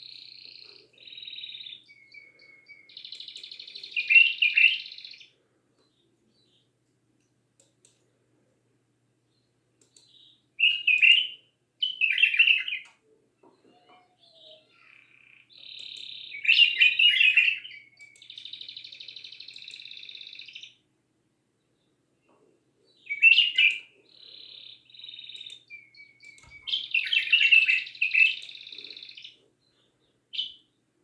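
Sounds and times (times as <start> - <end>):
songbird singing: 0.0 - 6.8, 9.3 - 20.9, 21.6 - 31.0.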